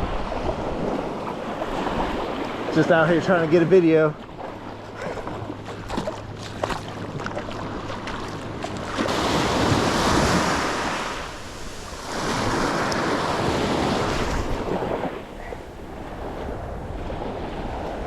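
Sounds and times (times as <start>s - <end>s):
small waves breaking on beach: 0.0s - 18.0s
wind buffeting microphone: 0.0s - 18.0s.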